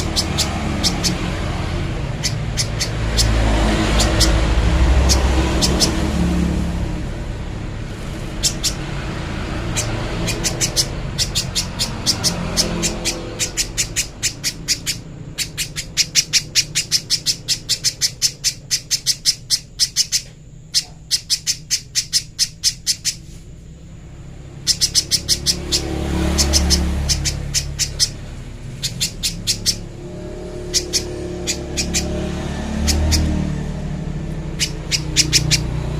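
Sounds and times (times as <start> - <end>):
bird calling sharp high chips: 0.0 - 7.3, 8.0 - 23.7, 24.4 - 35.9.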